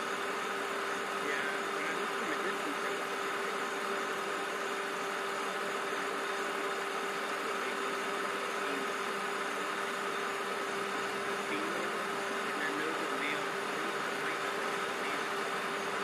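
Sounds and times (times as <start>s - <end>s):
low and high steady drone: 0.0s - 16.0s.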